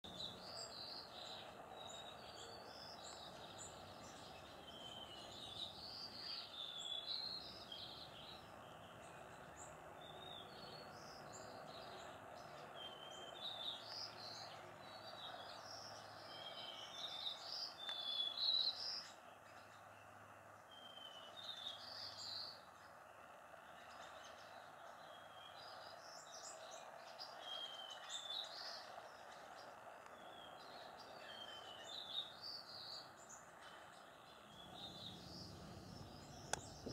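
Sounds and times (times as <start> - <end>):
sparrows chirping: 0.0 - 36.9
faint background hiss: 0.1 - 36.9.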